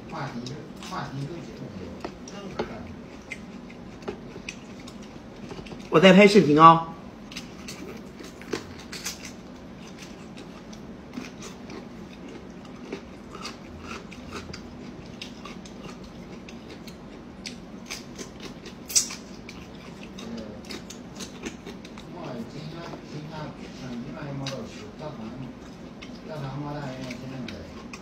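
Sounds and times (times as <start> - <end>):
crunchy chewing: 0.0 - 5.9, 7.2 - 28.0
faint steady hum: 0.0 - 28.0.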